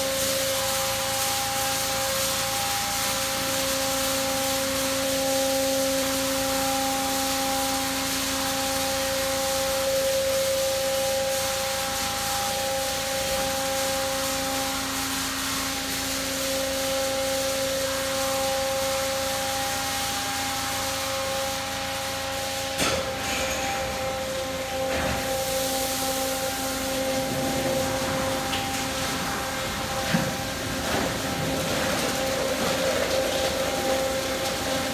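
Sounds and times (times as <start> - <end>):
spraying water: 0.0 - 34.9
motor hum: 3.8 - 34.9.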